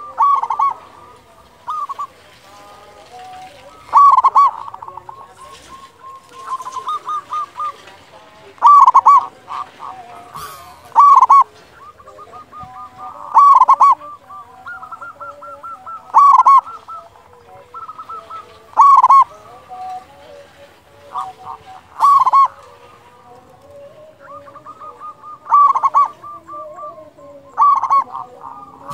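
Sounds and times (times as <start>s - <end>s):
dove cooing: 0.0s - 28.9s
faint bird calls: 0.0s - 28.9s.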